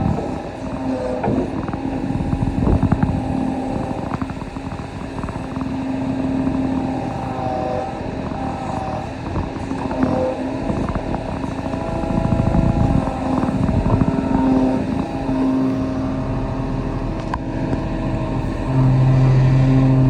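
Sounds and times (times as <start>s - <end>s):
excavator diesel engine running: 0.0s - 20.0s
hydraulic whine: 0.0s - 20.0s.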